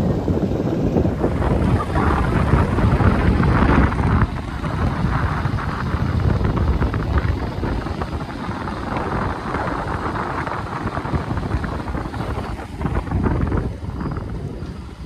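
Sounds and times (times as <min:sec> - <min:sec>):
road and traffic rumble: 0:00.0 - 0:15.0
wind buffeting microphone: 0:00.0 - 0:15.0.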